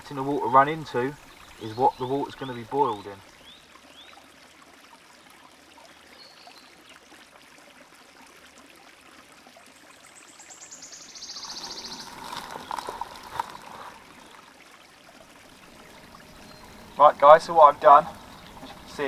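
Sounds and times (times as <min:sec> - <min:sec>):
stream trickling: 0:00.0 - 0:19.0.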